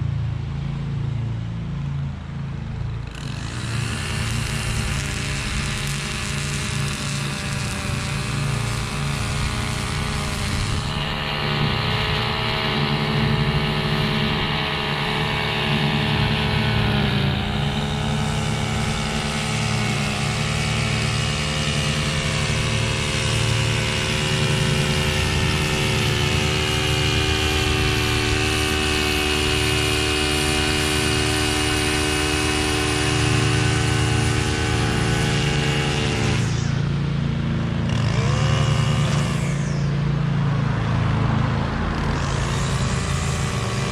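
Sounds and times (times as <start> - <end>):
mower engine running: 0.0 - 43.9.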